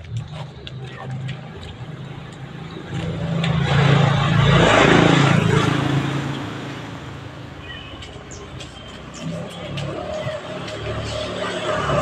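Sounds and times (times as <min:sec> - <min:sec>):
vehicle passing by: 0:00.3 - 0:12.0.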